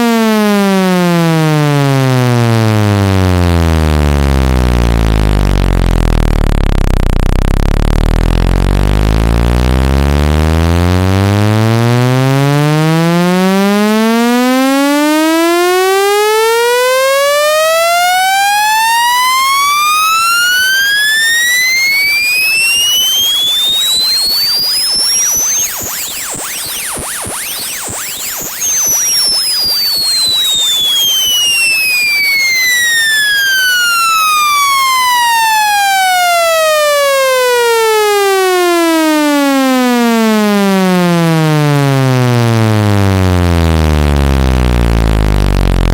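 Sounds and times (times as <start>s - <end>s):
electronic tone sweeping upward: 0.0s - 45.9s.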